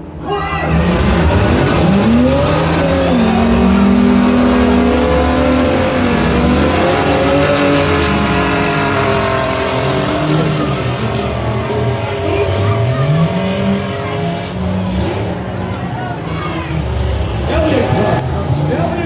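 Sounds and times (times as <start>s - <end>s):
race truck engines revving: 0.0s - 19.0s.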